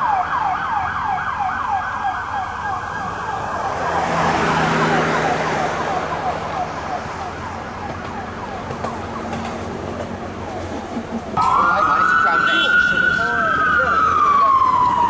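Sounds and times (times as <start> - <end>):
police siren yelp: 0.0 - 9.5, 11.4 - 15.0.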